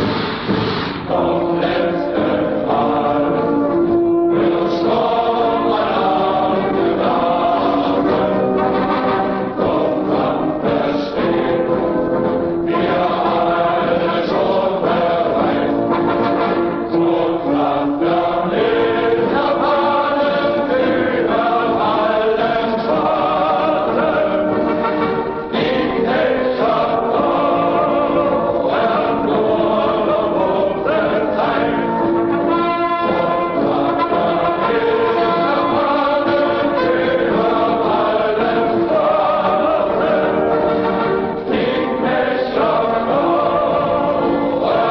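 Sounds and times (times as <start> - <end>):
choir singing sustained chords: 0.0 - 44.9.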